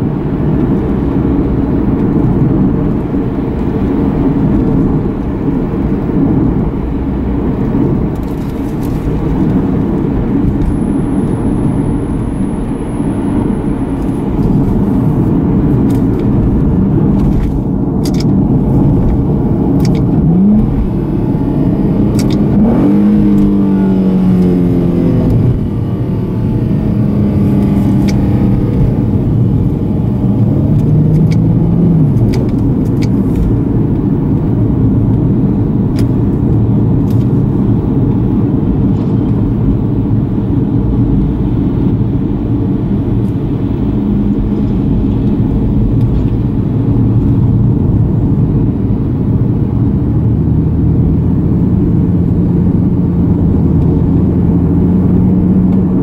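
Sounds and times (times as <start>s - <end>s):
car engine rumble from cabin: 0.0s - 56.0s.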